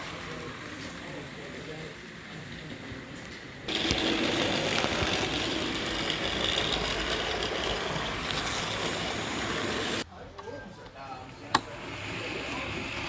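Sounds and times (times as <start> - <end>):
model train running on track: 0.0 - 10.0, 11.8 - 13.0.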